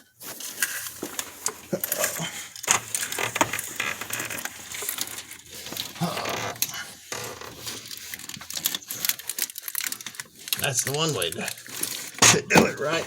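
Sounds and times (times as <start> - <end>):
clicks and rustles of handling: 0.0 - 13.0.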